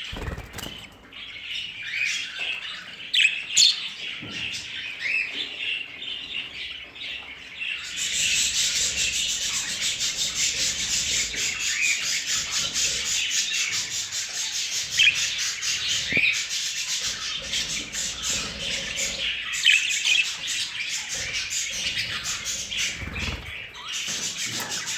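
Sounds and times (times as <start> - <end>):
budgerigars chirping: 0.1 - 24.9.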